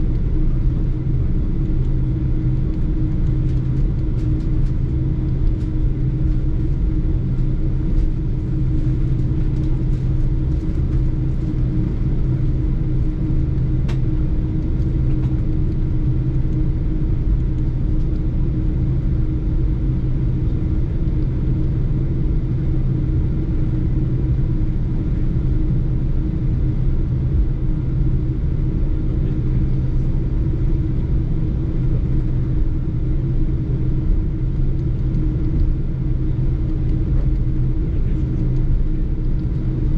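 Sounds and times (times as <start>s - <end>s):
jet engine drone inside cabin: 0.0s - 39.9s.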